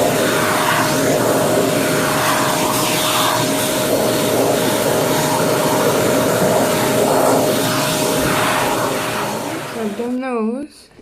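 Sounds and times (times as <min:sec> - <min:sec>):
vacuum cleaner running: 0:00.0 - 0:10.6.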